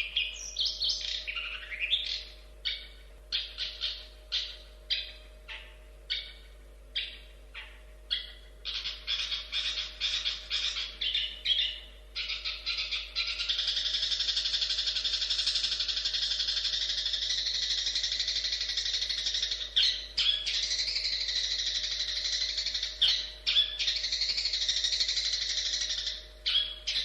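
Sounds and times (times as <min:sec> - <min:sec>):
bird twittering song: 0:00.0 - 0:27.0.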